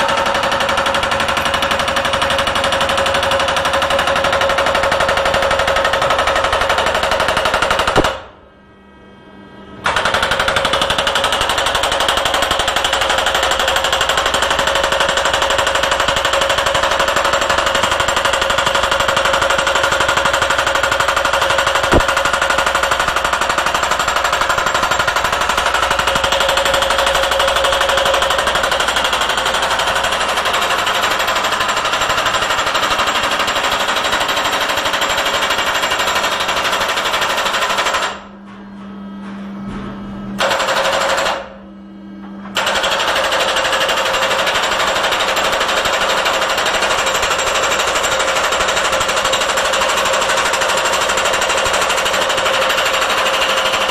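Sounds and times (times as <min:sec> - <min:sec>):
hydraulic hammer pounding metal: 0:00.0 - 0:08.5, 0:09.8 - 0:53.9.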